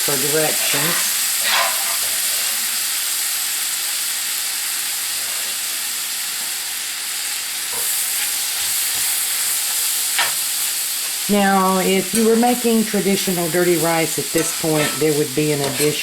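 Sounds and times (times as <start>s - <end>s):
sausage sizzling in a skillet: 0.0s - 16.0s.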